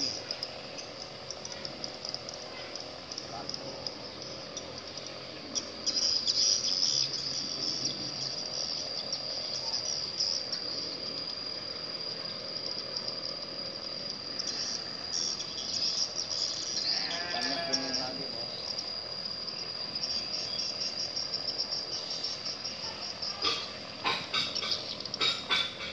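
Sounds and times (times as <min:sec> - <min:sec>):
insect chirring: 0:00.0 - 0:25.9
insects trilling: 0:00.0 - 0:25.9.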